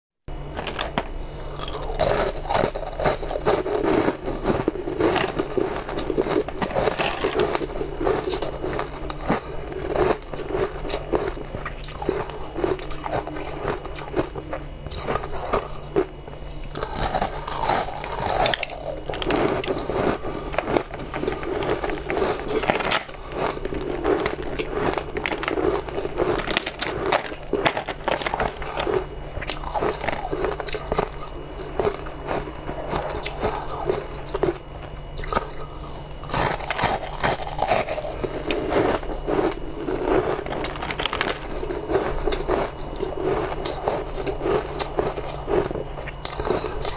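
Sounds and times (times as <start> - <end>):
steady low hum: 0.3 - 46.9
crunching frozen ice: 0.5 - 46.9.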